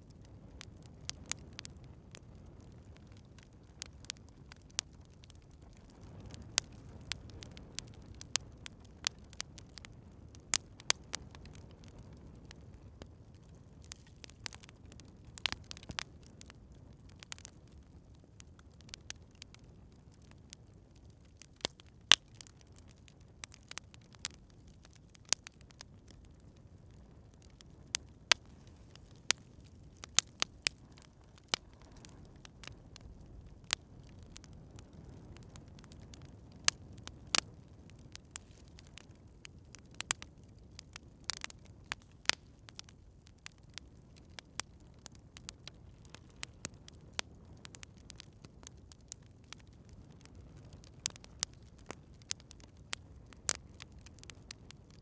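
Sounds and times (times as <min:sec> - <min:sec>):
campfire pops and snaps: 0:00.0 - 0:55.0
low rush of burning wood: 0:00.0 - 0:55.0.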